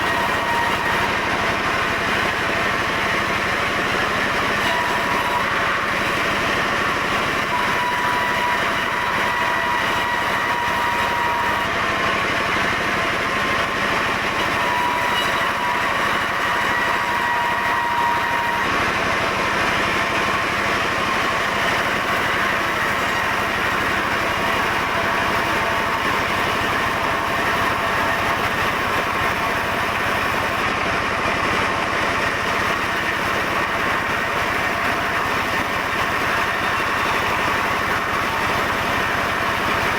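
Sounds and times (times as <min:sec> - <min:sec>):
sawmill saw droning with whine: 0:00.0 - 0:39.9.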